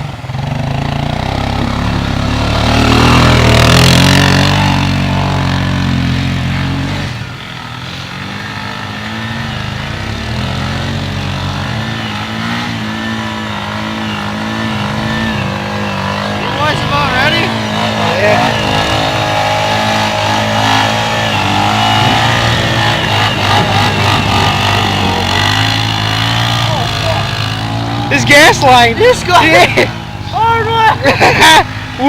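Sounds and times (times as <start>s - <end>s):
atv engine running under throttle: 0.0s - 32.0s.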